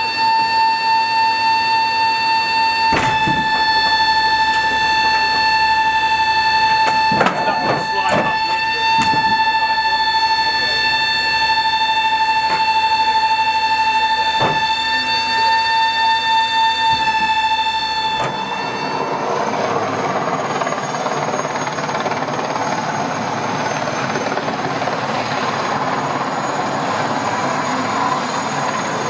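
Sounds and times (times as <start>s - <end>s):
helicopter rotor noise: 0.0s - 29.0s
helicopter turbine whine: 0.0s - 29.0s.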